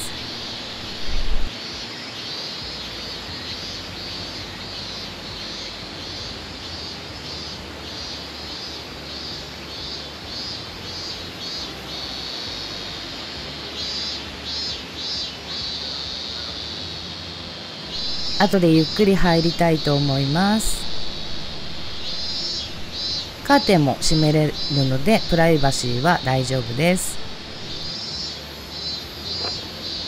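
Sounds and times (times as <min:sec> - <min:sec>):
cicadas shrilling: 0:00.0 - 0:30.0.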